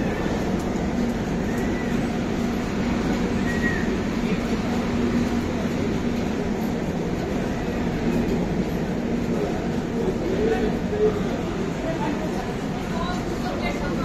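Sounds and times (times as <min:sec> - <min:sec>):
crowd murmuring: 0:00.0 - 0:14.0
trains humming and rumbling: 0:00.0 - 0:14.0.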